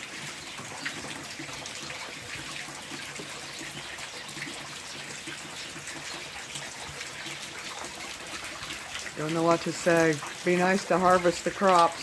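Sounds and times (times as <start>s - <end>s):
steady rain falling: 0.0s - 12.0s
water drops and drips: 0.0s - 12.0s.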